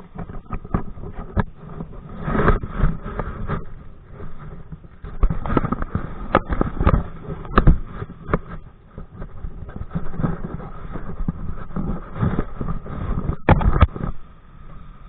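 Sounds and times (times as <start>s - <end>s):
water splashing against kayak: 0.0s - 15.0s
wind buffeting microphone: 0.0s - 15.0s.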